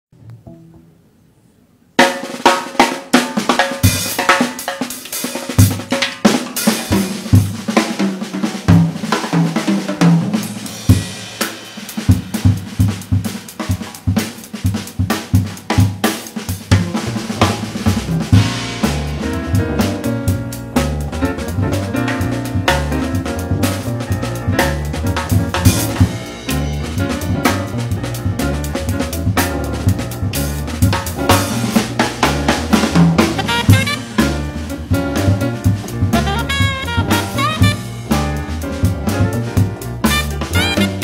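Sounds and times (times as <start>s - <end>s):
drum kit playing a groove: 2.0s - 41.0s.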